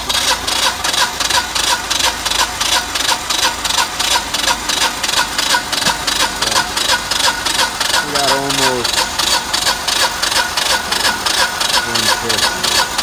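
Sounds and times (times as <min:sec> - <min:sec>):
generator engine cranking: 0:00.0 - 0:13.0.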